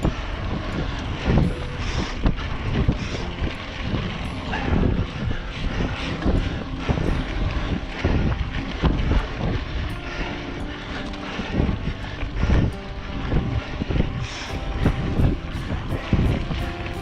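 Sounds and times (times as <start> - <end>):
bike tyres rumbling over ground: 0.0 - 17.0
wind buffeting microphone: 0.0 - 17.0.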